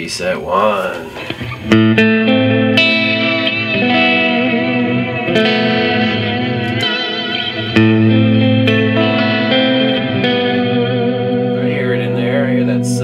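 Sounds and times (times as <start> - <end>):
reverb electric guitar chords: 1.4 - 13.0.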